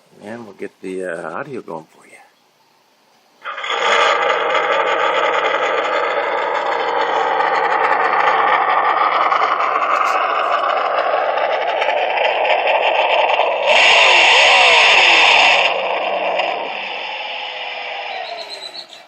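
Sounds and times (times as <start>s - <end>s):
toy speaker engine idling sound: 3.4s - 19.0s.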